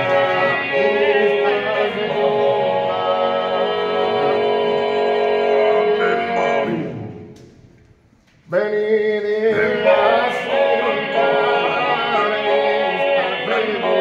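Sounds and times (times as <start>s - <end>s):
men singing unaccompanied: 0.0s - 6.8s, 8.6s - 14.0s.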